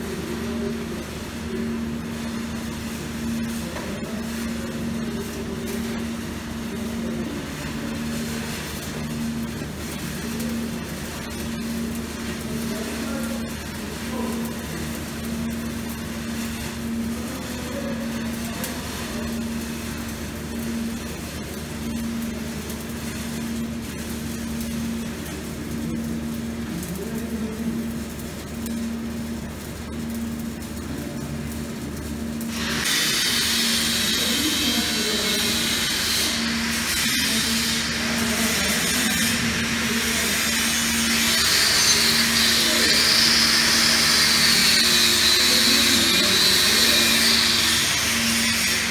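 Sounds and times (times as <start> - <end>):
welding arc crackling: 0.0 - 48.9.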